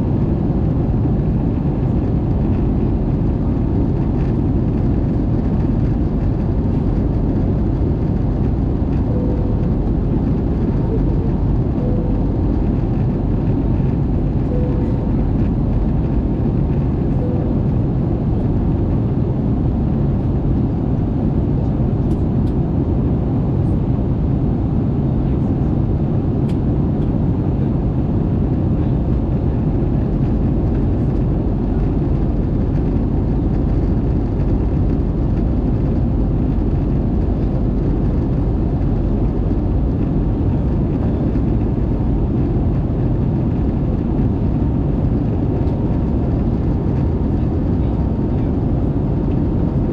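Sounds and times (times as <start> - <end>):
airplane cabin airflow rush: 0.0 - 49.9
jet engines running: 0.0 - 49.9.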